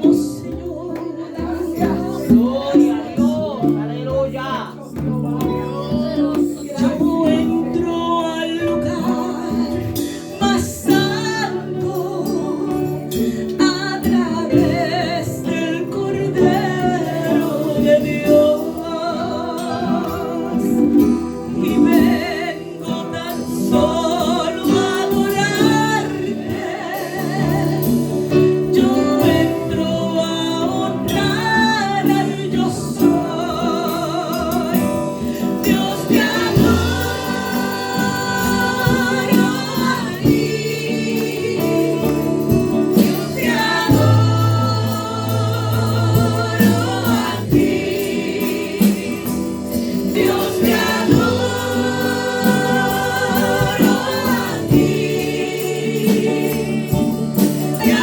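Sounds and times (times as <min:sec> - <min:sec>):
instrumental accompaniment: 0:00.0 - 0:58.0.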